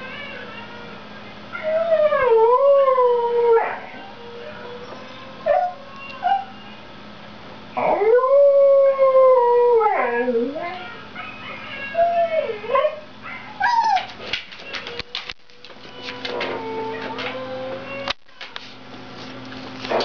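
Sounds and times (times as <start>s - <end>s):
dog howling: 0.0s - 6.8s, 7.8s - 18.1s.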